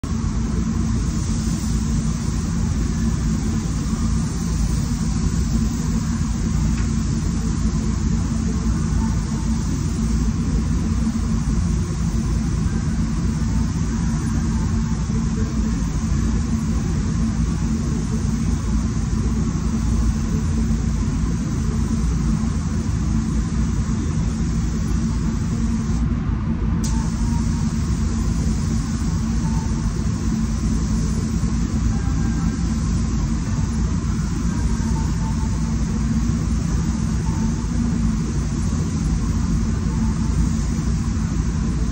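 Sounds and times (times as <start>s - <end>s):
ventilation fans rumbling: 0.0s - 41.9s.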